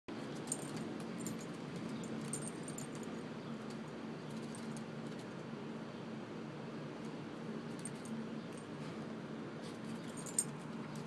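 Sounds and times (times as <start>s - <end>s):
low background hum: 0.1s - 11.0s.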